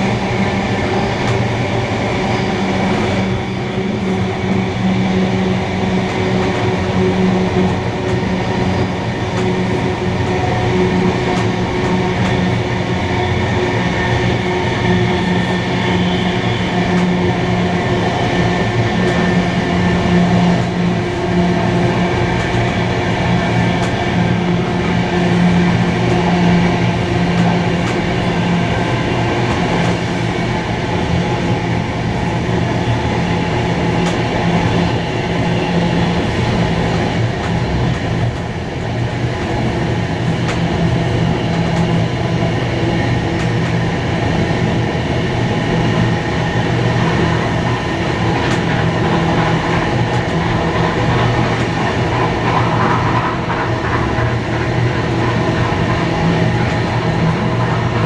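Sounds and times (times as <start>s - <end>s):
steam train rumbling: 0.0s - 58.0s.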